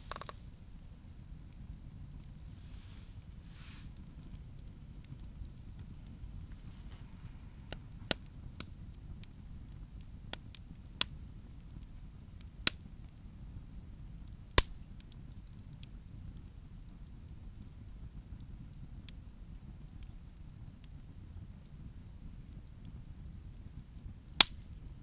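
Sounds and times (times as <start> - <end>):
low steady rumble: 0.0 - 25.0
wood fire crackling: 0.0 - 25.0.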